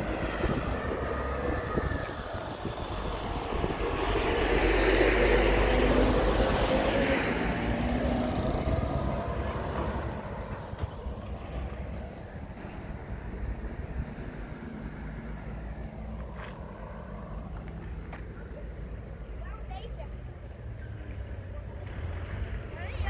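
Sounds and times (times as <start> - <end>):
lorry driving past: 0.0 - 19.4.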